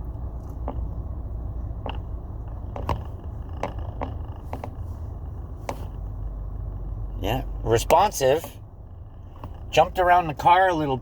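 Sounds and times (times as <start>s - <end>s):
car engine and cabin rumble: 0.0s - 11.0s.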